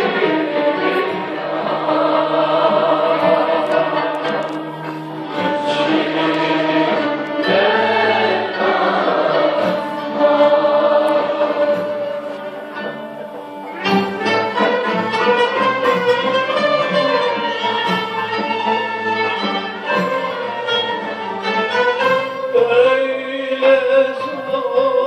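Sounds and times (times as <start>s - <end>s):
instrumental ensemble: 0.0s - 25.0s
mixed choir singing: 0.0s - 25.0s.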